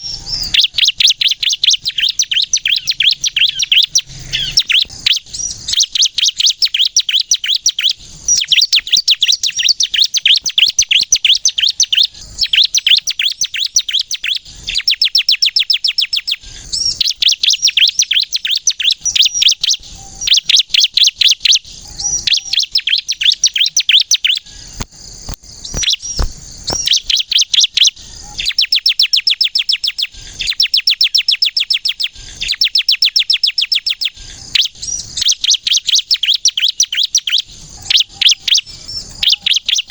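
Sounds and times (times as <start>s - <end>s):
bird singing high repeated notes: 0.0s - 39.9s.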